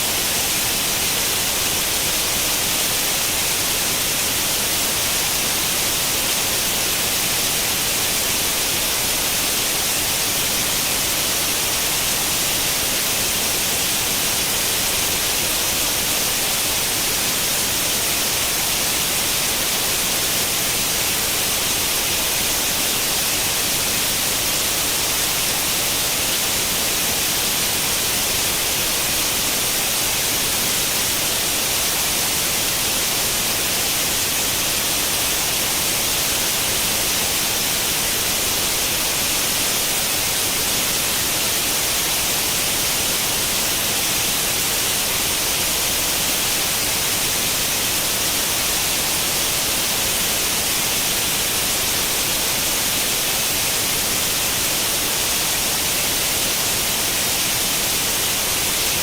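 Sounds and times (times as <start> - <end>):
white noise static hiss: 0.0 - 59.0.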